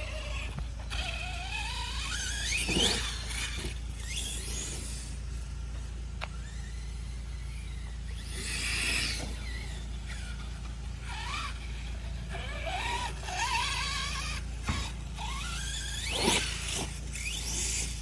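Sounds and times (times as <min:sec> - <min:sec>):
remote control car motor whining: 0:00.0 - 0:18.0.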